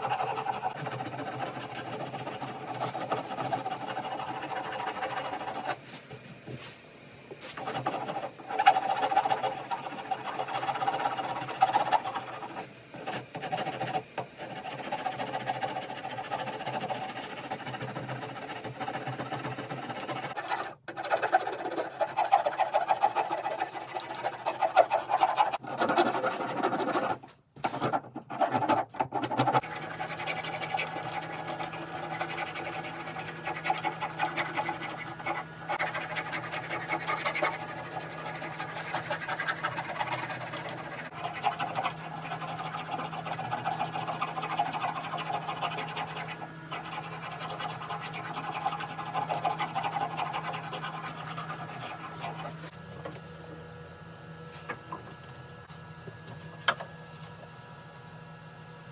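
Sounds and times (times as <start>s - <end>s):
filing or sanding strokes: 0.0s - 6.8s, 7.4s - 52.7s.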